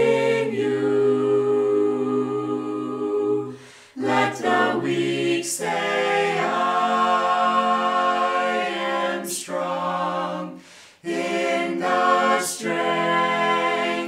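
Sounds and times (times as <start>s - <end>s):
choir singing a cappella: 0.0s - 14.0s.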